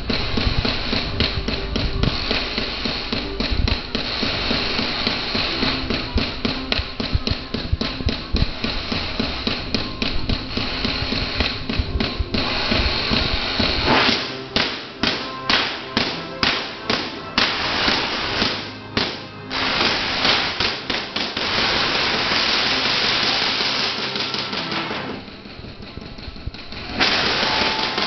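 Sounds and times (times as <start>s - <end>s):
electric spark cracks: 0.0s - 25.3s, 26.8s - 28.0s.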